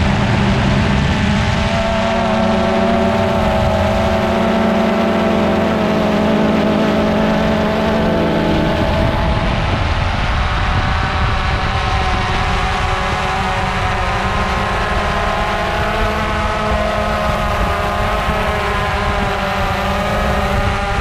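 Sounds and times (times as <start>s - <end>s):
drone propellers buzzing: 0.0s - 21.0s
low rumble of prop wash: 0.0s - 21.0s.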